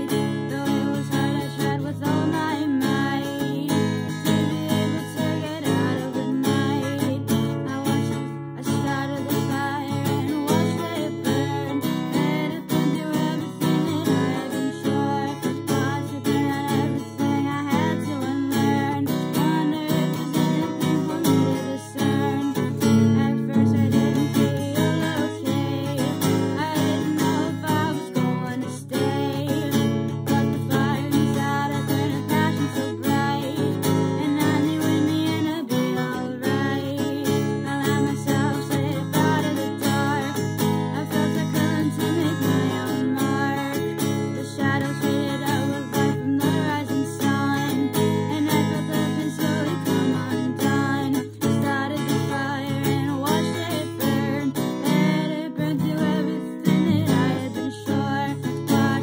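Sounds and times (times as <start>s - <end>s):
acoustic guitar strumming: 0.0s - 59.0s
person singing: 0.0s - 59.0s.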